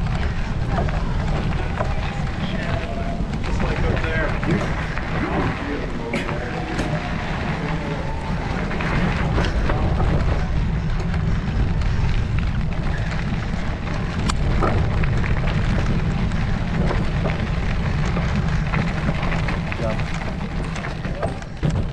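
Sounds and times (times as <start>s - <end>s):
bicycle clicks and rattles: 0.0s - 21.9s
wind buffeting microphone: 0.0s - 21.9s.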